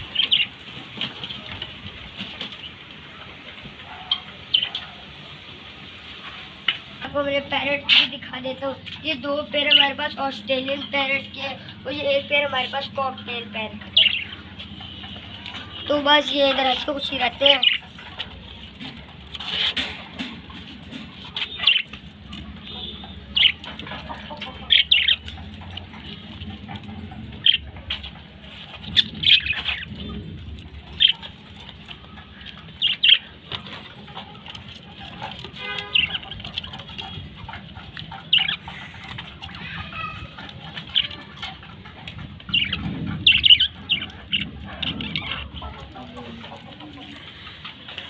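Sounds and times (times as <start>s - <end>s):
parrots chirping: 0.0s - 1.6s, 2.4s - 7.0s, 7.6s - 48.0s.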